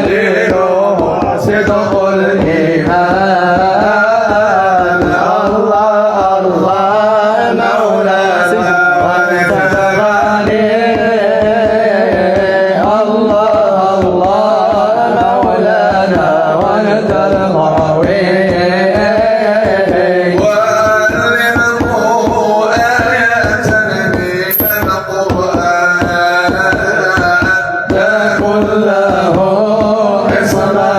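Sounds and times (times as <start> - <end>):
hand drum beat: 0.0 - 30.9
voices singing: 0.0 - 30.9.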